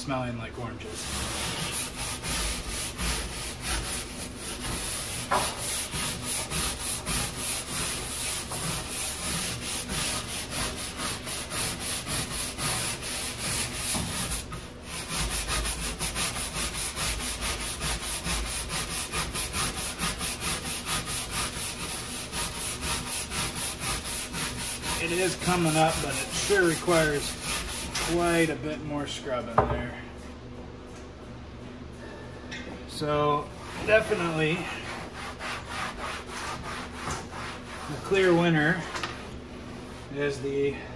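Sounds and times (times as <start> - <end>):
brush scrubbing fiberglass deck: 0.9 - 28.6, 32.9 - 38.8.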